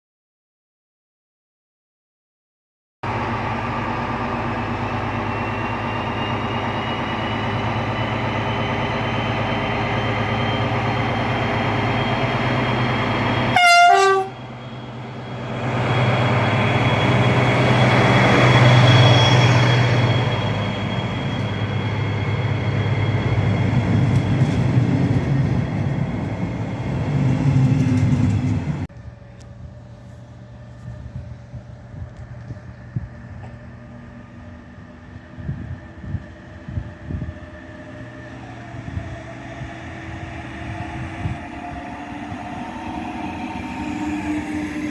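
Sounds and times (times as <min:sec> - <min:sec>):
train running noise: 0:03.1 - 0:44.9.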